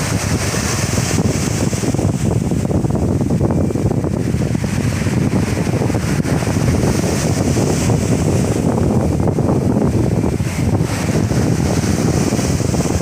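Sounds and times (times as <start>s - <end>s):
sea waves surging onto beach: 0.0s - 13.0s
wind buffeting microphone: 0.0s - 13.0s.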